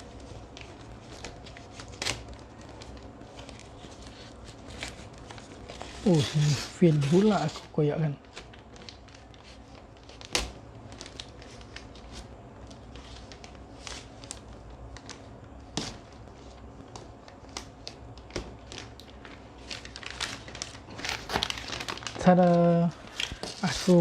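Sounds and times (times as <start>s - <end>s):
cardboard packaging handled: 0.0s - 24.0s.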